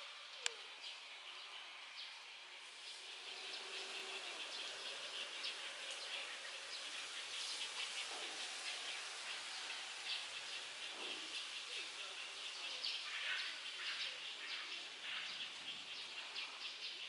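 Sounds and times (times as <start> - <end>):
insects chirping chorus: 2.6 - 17.0.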